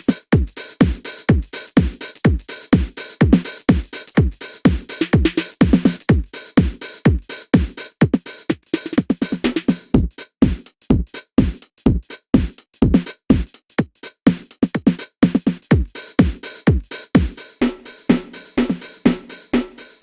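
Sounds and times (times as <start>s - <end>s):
steady hi-hat: 0.0s - 20.0s.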